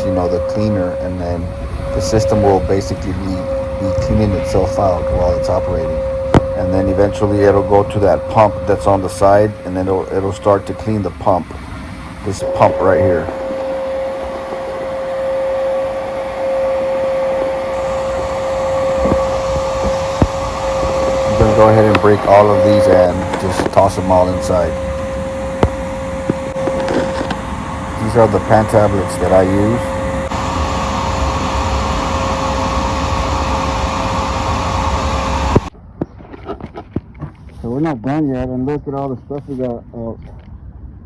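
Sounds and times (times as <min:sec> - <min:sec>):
air handler mechanical drone: 0:00.0 - 0:36.2
constant whine: 0:00.0 - 0:41.0.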